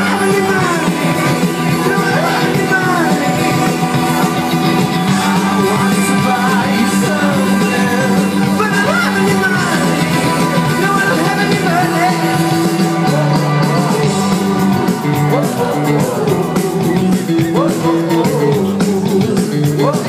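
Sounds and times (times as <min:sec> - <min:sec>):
bass line: 0:00.0 - 0:20.0
drums: 0:00.0 - 0:20.0
electric guitars: 0:00.0 - 0:20.0.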